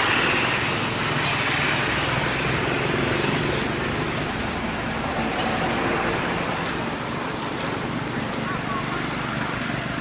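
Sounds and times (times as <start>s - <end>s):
engine and road noise: 0.0s - 10.0s.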